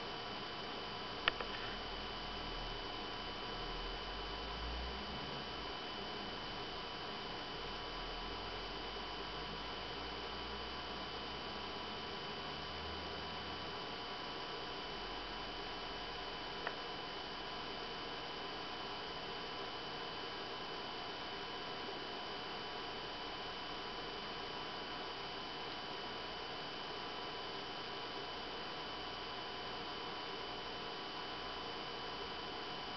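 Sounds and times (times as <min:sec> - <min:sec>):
faint high-pitched whine: 0:00.0 - 0:32.9
projector cooling fans: 0:00.0 - 0:32.9.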